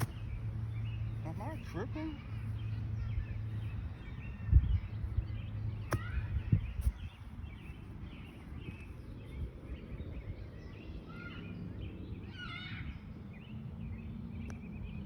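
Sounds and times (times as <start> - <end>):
steady low rumble: 0.0 - 12.2
birds chirping and calling: 0.0 - 15.0.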